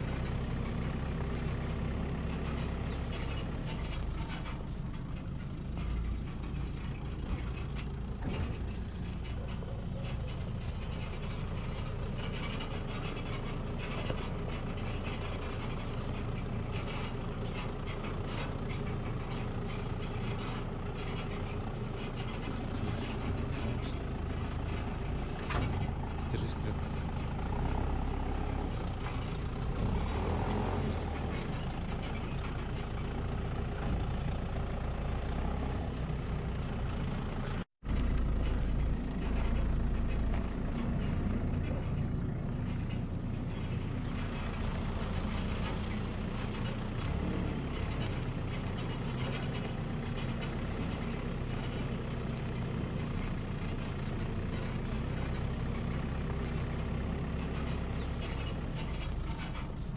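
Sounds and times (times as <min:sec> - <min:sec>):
farm machine engine rumble: 0:00.0 - 0:59.9.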